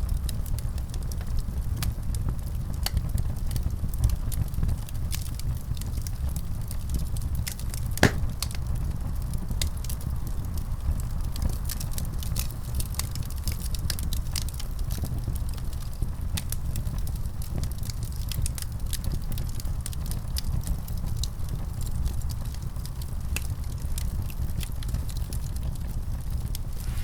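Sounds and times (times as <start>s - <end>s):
wood fire crackling in fireplace: 0.1s - 27.0s.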